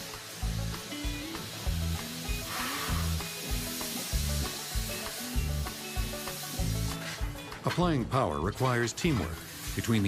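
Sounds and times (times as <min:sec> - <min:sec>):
steam locomotive hissing: 0:00.0 - 0:07.3, 0:09.1 - 0:10.0
background music with bass: 0:00.0 - 0:10.0.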